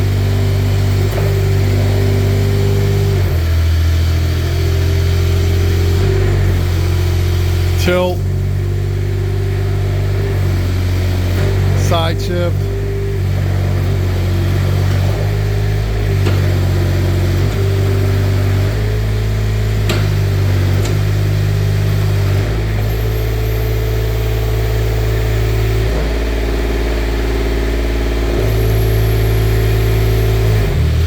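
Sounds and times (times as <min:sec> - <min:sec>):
forklift engine running: 0:00.0 - 0:31.0.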